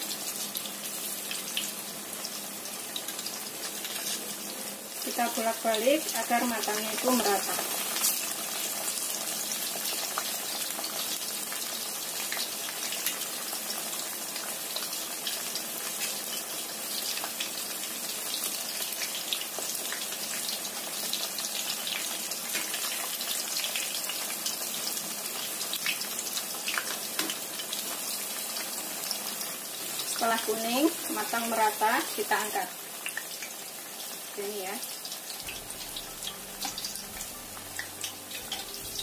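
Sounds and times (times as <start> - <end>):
deep-frying sizzle: 0.0 - 39.0.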